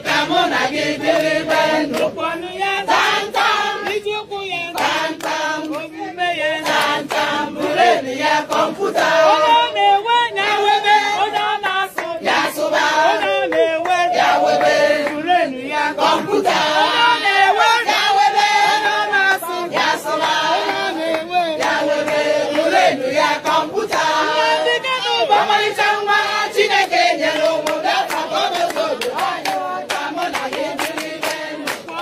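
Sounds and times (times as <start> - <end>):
women singing together: 0.0 - 32.0.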